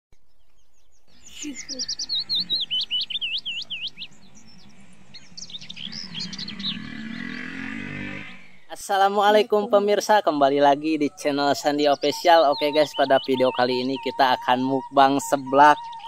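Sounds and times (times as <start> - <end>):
songbird chirping: 0.2 - 16.0.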